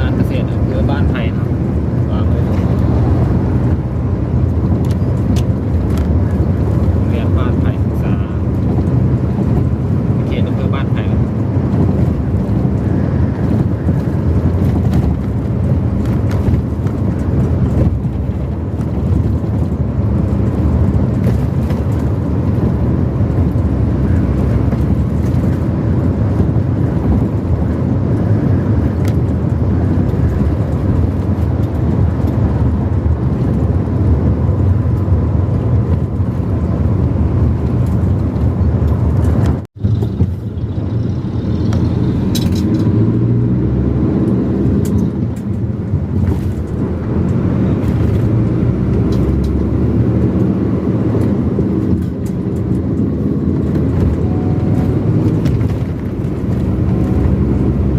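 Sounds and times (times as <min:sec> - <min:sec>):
car road and engine noise: 0:00.0 - 0:57.9.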